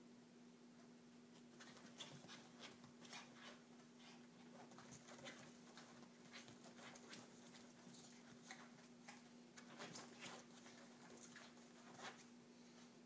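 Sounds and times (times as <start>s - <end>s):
dog paws scrabbling on cushions: 1.4s - 12.3s.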